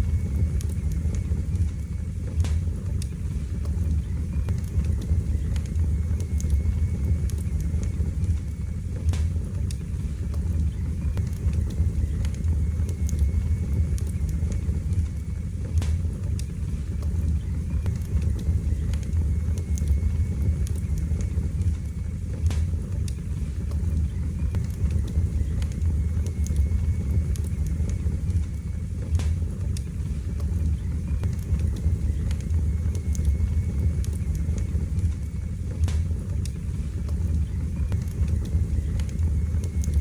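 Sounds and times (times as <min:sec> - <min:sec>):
fire crackles and pops: 0:00.0 - 0:40.0
low roar of flames: 0:00.0 - 0:40.0.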